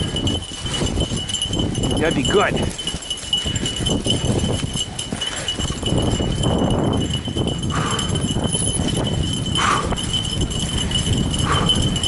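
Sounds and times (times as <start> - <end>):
tyres and paws crunching on ground: 0.0 - 12.0.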